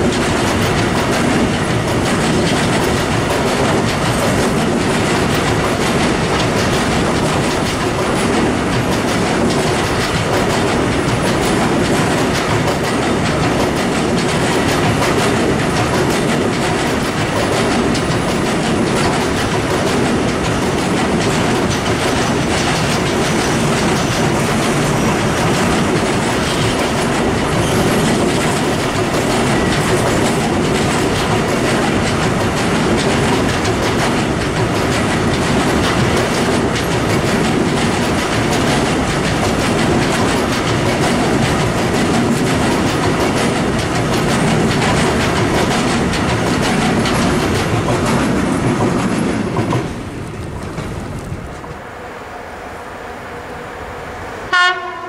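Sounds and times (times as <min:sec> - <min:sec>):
freight train wheels clattering: 0:00.0 - 0:51.8.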